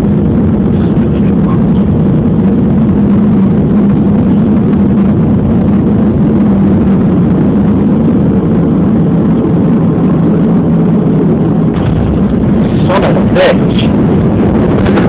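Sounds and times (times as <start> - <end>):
airliner cabin engine noise: 0.0 - 15.0.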